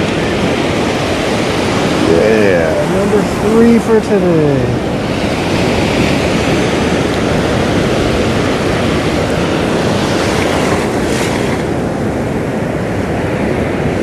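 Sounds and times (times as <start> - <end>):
ocean surf washing over sand: 0.0 - 14.0
wind rumble on microphone: 0.0 - 14.0.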